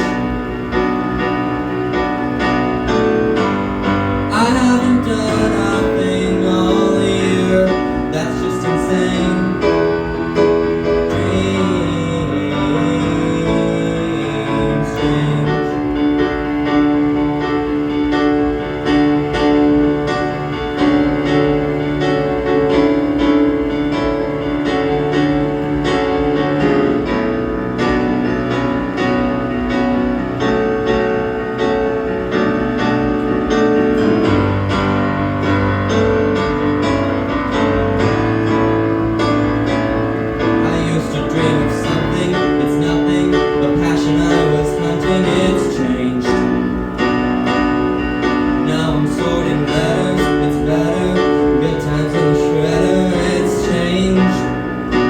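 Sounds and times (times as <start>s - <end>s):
piano keyboard chords: 0.0s - 55.0s.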